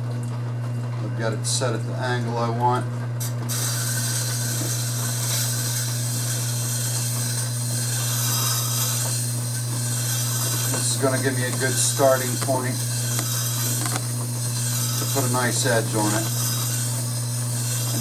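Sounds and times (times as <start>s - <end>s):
sharpening machine motor hum: 3.2s - 18.0s
blade grinding on wheel: 3.5s - 18.0s.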